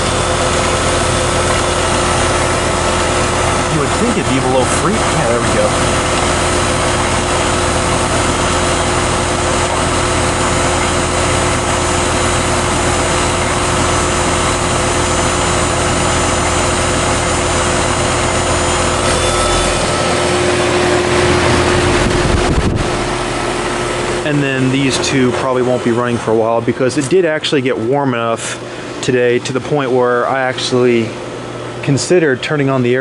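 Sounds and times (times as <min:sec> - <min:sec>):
compressor hum: 0:00.0 - 0:33.0
fan whooshing: 0:00.0 - 0:33.0.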